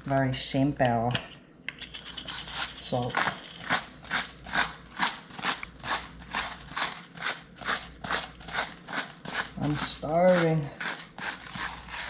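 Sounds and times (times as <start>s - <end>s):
salt grinder crunching: 2.2s - 12.0s.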